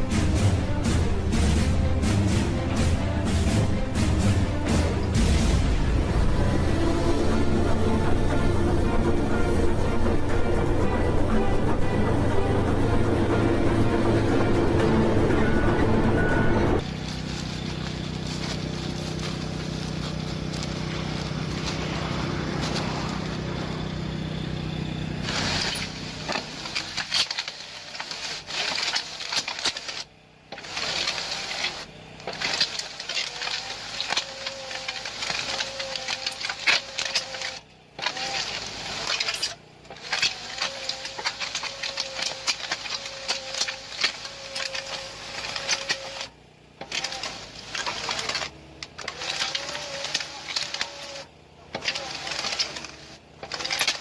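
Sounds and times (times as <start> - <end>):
clattering crackling machine: 0.0 - 54.0
engine humming: 0.0 - 54.0.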